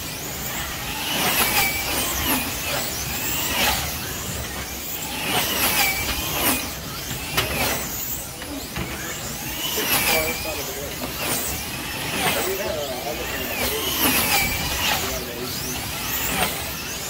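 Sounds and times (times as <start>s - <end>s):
slot car motors whining: 0.0s - 17.0s.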